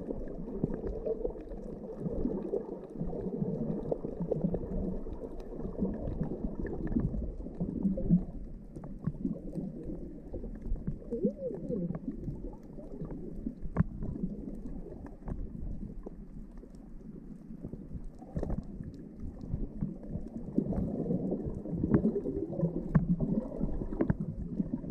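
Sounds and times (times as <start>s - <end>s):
bubbles gurgling: 0.0s - 24.9s
muffled underwater water wash: 0.0s - 24.9s.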